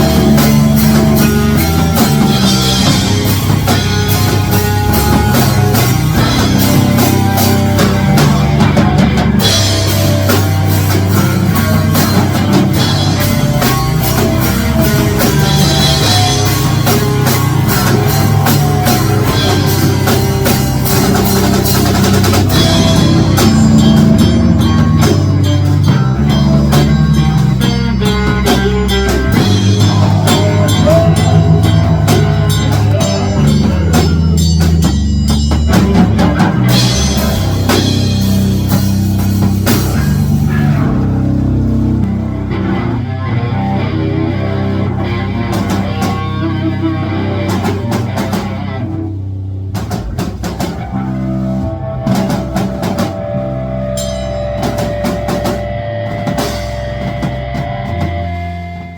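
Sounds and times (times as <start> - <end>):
rock music with drums and guitar: 0.0 - 58.9.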